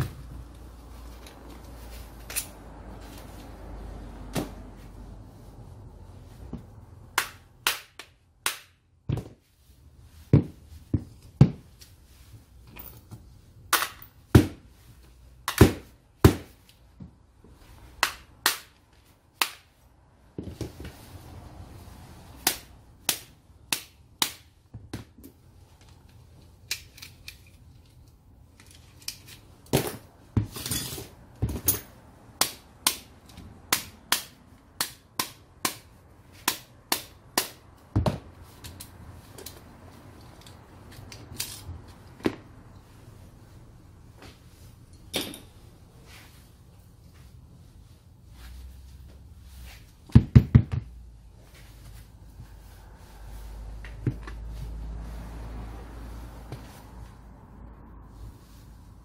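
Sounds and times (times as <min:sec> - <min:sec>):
parts rustling: 0:00.0 - 0:08.0, 0:09.0 - 0:59.0.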